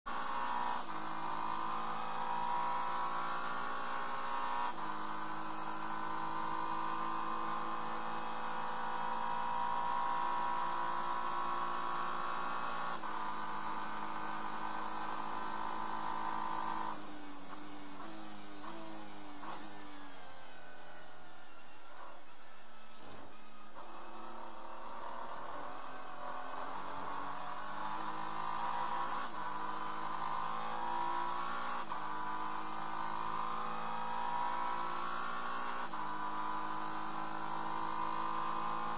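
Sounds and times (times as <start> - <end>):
race car engine from cockpit: 0.0 - 38.9.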